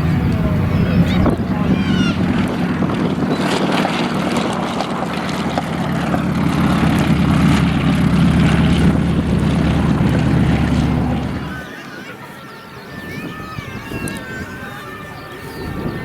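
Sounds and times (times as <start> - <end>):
model airplane engine drone: 0.0 - 16.0.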